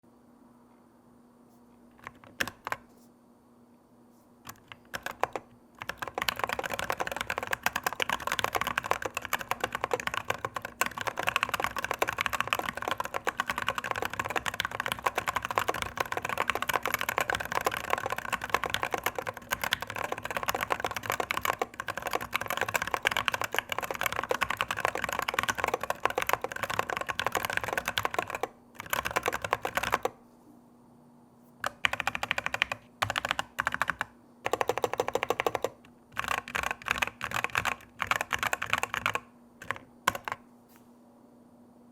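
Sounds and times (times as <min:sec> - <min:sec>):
mechanical keyboard typing: 0:02.0 - 0:02.9, 0:04.5 - 0:30.2, 0:31.6 - 0:40.4.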